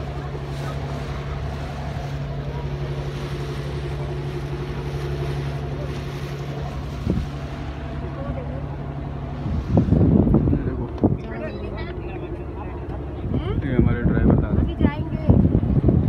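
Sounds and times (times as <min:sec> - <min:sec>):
boat engine droning: 0:00.0 - 0:16.0
water churning along hull: 0:00.0 - 0:16.0.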